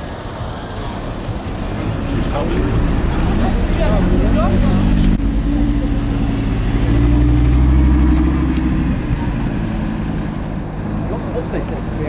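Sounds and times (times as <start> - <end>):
car engine pulling away: 0.0 - 12.0.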